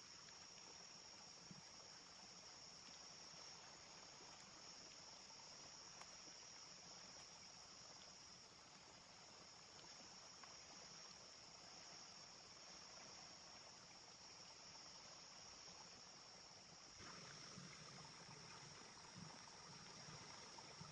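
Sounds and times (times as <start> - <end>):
crickets trilling: 0.0 - 20.9
soft even hiss: 0.0 - 20.9.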